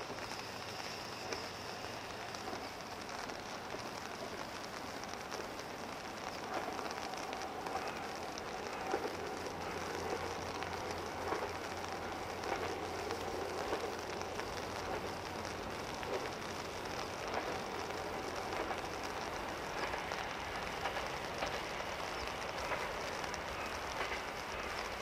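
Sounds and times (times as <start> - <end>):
distant train engine hum: 0.0 - 25.0
rain hissing: 0.0 - 25.0.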